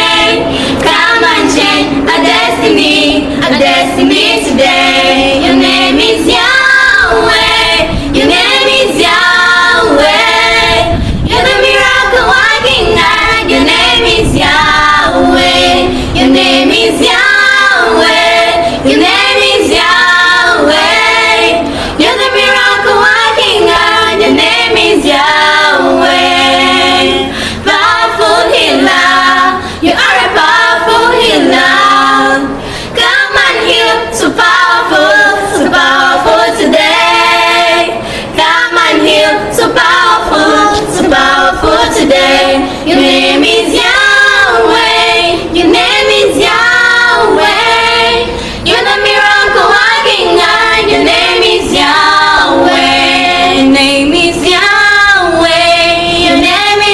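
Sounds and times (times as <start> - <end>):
girls singing a cappella: 0.0 - 56.9.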